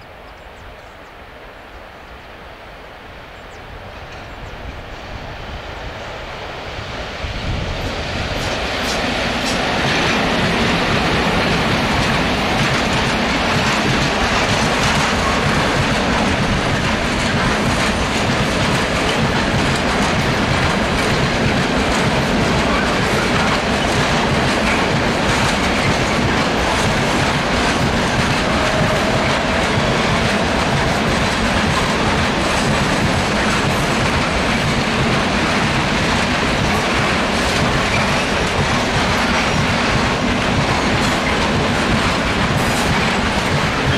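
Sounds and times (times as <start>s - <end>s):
freight train wheels clattering: 7.4s - 43.9s.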